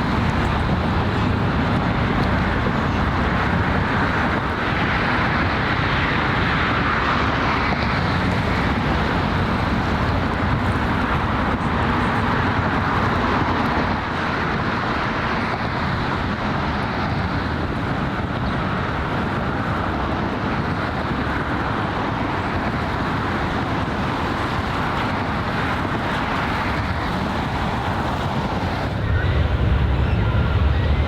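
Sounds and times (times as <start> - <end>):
distant harbour traffic: 0.0 - 31.0
wind on microphone: 0.0 - 31.0.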